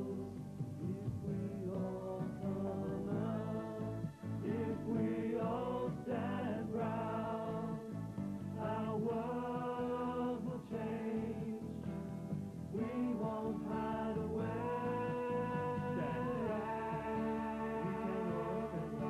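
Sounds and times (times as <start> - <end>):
choir singing in harmony: 1.3 - 11.8, 12.7 - 19.0.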